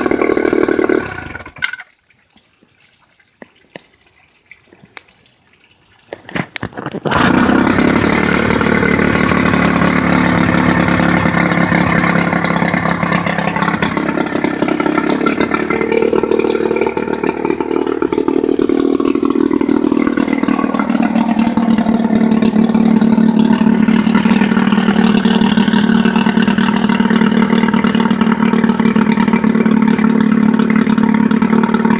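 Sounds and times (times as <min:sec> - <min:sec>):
outboard motor running: 0:00.0 - 0:01.9, 0:07.0 - 0:31.9.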